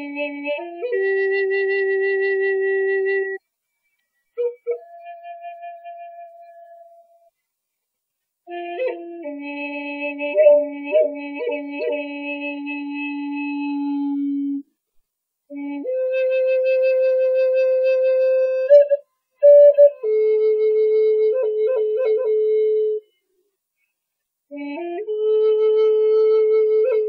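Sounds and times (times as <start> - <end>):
solo flute melody: 0.0 - 7.5, 8.4 - 14.7, 15.5 - 23.4, 24.5 - 27.0.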